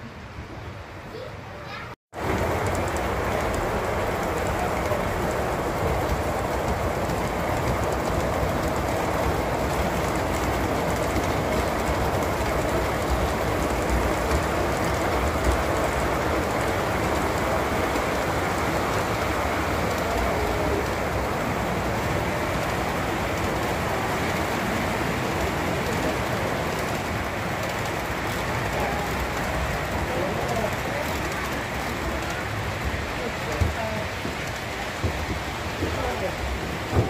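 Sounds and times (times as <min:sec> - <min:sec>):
model train wheels rumbling on rail: 0:01.1 - 0:37.0.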